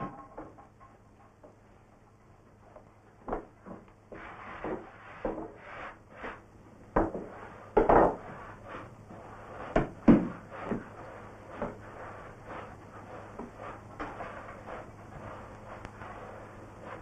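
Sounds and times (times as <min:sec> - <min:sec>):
dough rubbing: 0:02.5 - 0:17.0.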